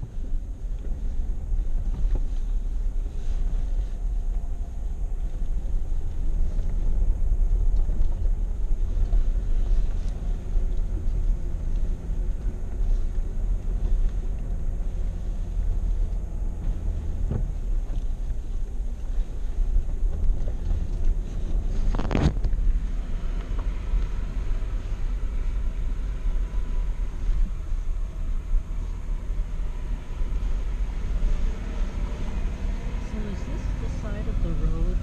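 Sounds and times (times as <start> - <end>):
engine and tyres rumbling: 0.0 - 35.0.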